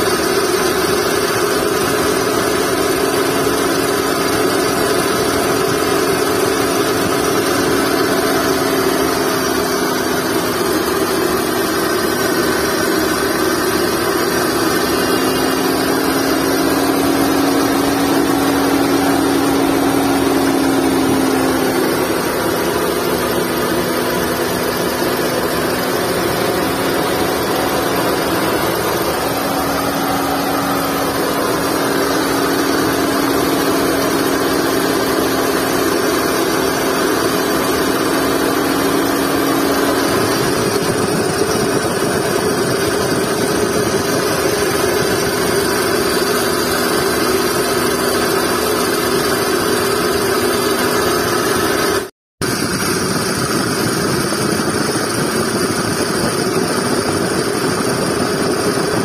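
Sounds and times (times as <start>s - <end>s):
car engine idling: 0.0s - 59.0s
steady tone from belt drive: 0.0s - 59.0s.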